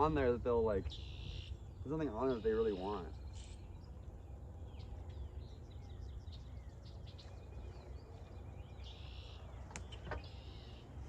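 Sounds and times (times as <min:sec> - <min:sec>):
birds chirping: 0:00.0 - 0:11.0
low steady rumble: 0:00.0 - 0:11.0.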